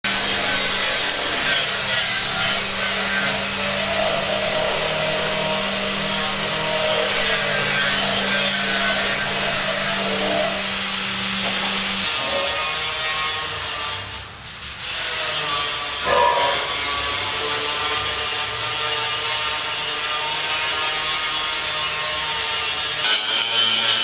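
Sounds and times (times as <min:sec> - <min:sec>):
power tool sawing: 0:00.1 - 0:24.0.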